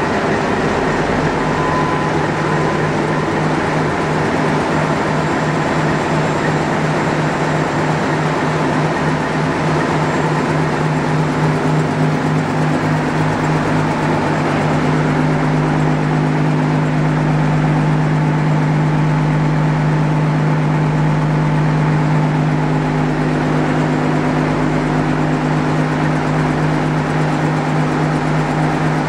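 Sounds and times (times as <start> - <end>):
diesel engine room drone: 0.0 - 29.0.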